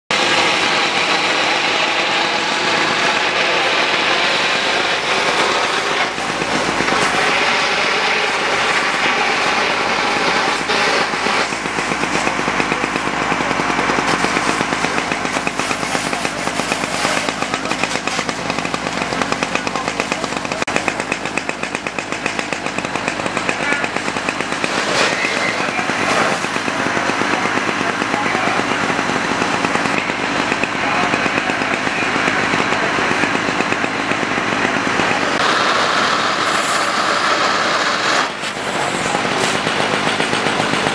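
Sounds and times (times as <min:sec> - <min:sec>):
engine running steadily: 0:00.1 - 0:40.9.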